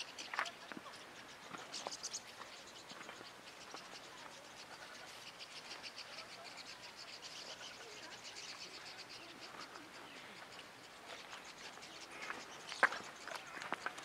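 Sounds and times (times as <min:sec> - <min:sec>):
faint insects chirping: 0:00.0 - 0:14.0.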